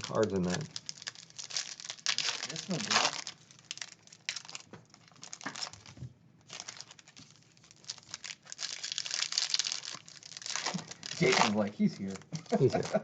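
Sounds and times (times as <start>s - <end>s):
card pack wrappers crinkling: 0.0s - 13.0s.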